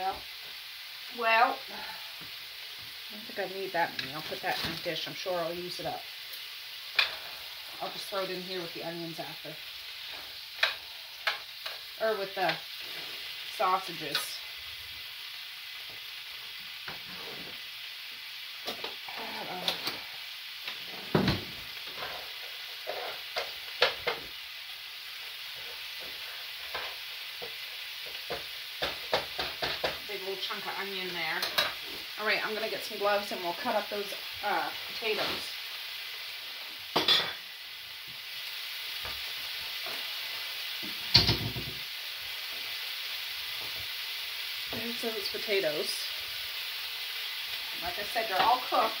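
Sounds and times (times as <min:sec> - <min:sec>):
sausages sizzling in frying pans: 0:00.0 - 0:49.0.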